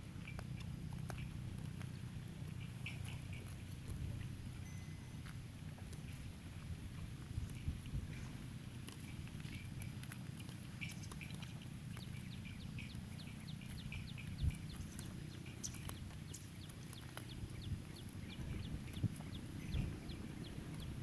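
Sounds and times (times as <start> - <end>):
birds chirping: 0.0 - 21.0
low steady rumble: 0.0 - 21.0.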